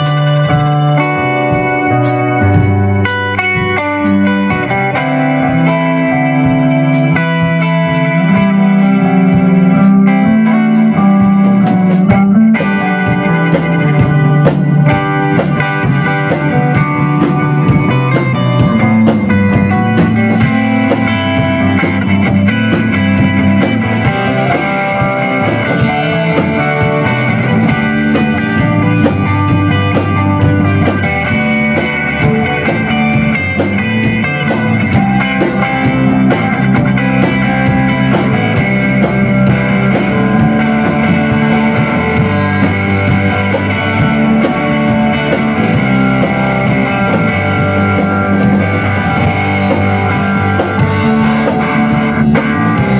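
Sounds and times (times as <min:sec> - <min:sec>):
drum kit beat: 0:00.0 - 0:52.9
electric guitars: 0:00.0 - 0:52.9.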